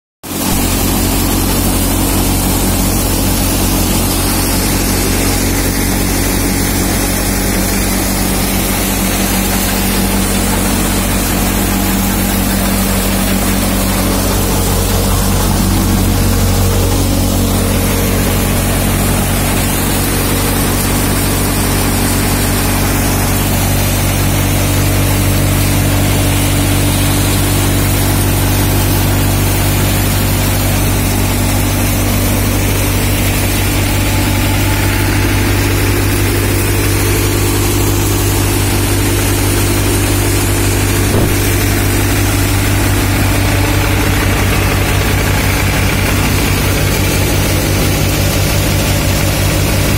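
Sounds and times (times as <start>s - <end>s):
thresher running: 0.2s - 49.9s
tractor diesel engine running: 0.2s - 49.9s.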